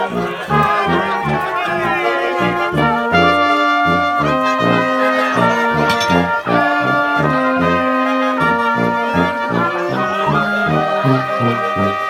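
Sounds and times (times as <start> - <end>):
brass band playing a polka: 0.0 - 12.0
pulsing bass notes: 0.0 - 12.0.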